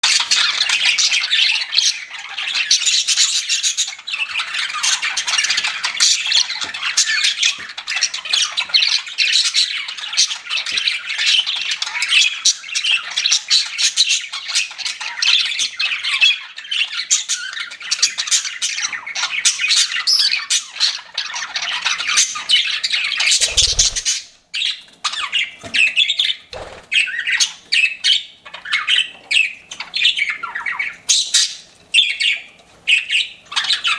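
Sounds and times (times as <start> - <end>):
budgies chirping: 0.0 - 33.9.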